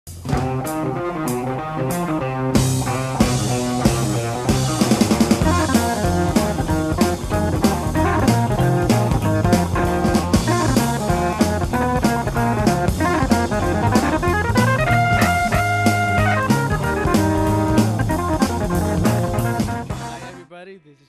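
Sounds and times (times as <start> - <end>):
drums with steady beat: 0.1 - 20.4
electric guitar playing: 0.1 - 20.4
bass guitar: 0.1 - 20.5.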